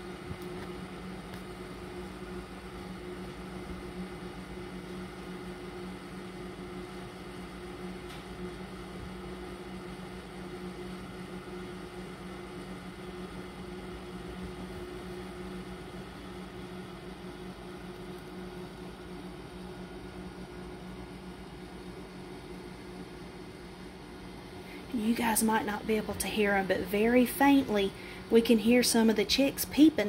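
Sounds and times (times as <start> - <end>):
fan motor humming: 0.0 - 30.0.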